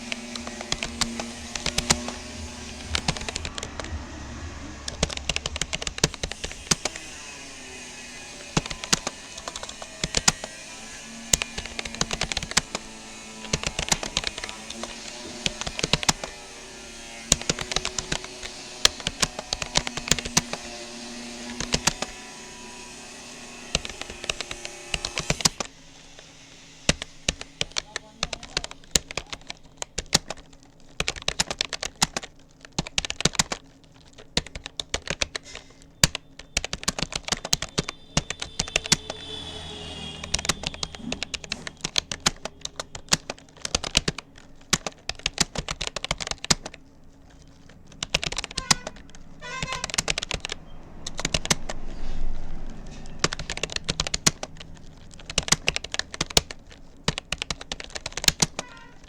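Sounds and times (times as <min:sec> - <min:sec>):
keyboard keys clicking: 0:00.0 - 0:25.7, 0:26.9 - 0:59.0.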